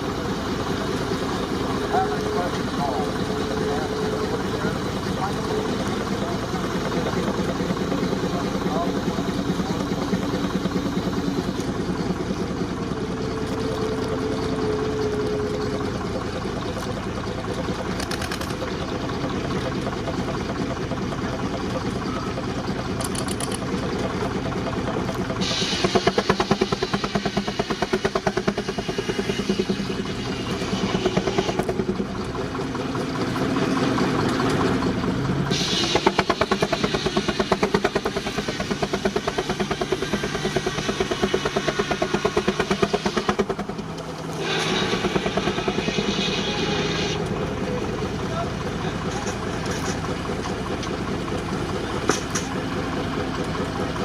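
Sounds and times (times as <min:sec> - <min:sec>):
steam engine exhaust beat: 0:00.0 - 0:54.0.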